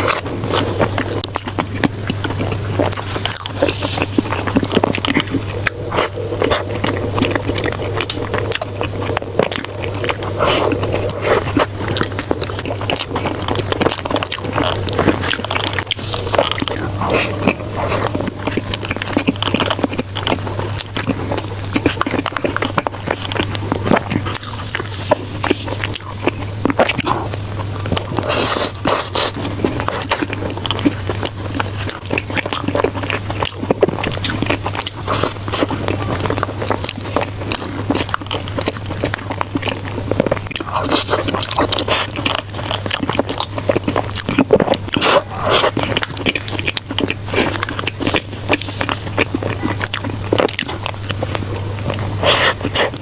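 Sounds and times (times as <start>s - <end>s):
chewing and biting food: 0.0s - 53.0s
steady low hum: 0.0s - 53.0s.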